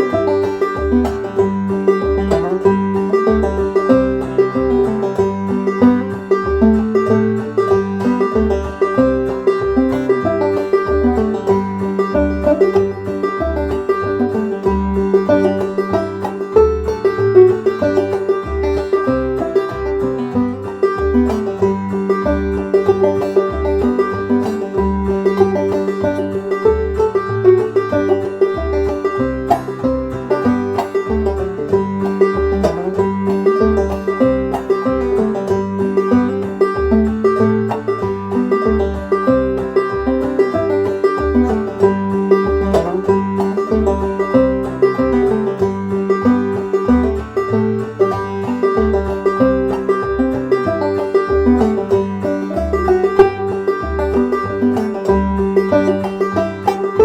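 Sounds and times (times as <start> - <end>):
banjo playing a lively tune: 0.0 - 57.0
guitar and bass backing track: 0.0 - 57.0.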